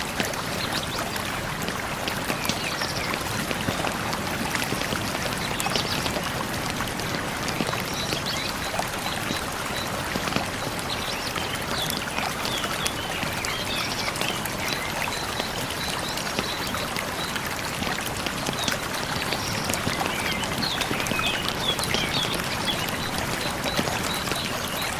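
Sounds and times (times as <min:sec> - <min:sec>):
stream water flowing: 0:00.0 - 0:24.9.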